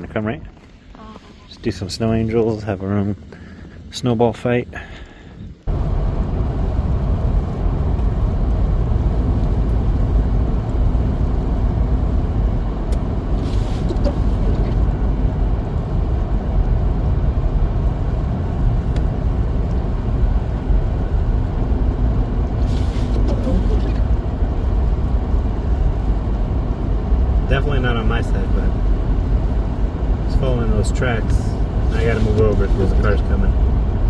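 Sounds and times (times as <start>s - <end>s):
truck cab road and engine rumble: 0.0s - 34.0s.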